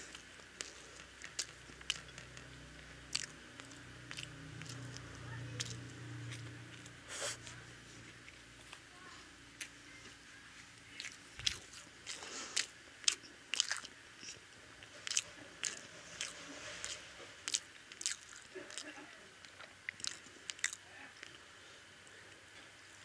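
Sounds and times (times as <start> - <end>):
biting and chewing: 0.0 - 8.8, 10.8 - 21.5.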